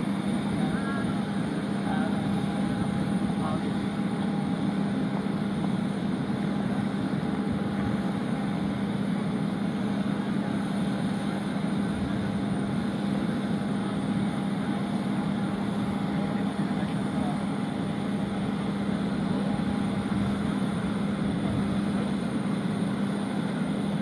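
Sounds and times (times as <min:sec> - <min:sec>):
parked airliner machinery drone: 0:00.0 - 0:24.0.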